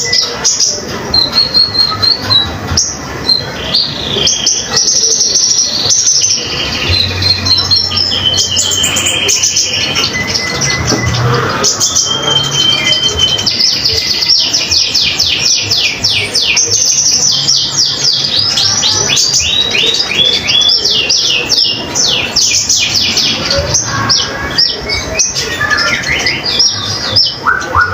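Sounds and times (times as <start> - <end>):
bird singing high chirping notes: 0.0 - 27.9.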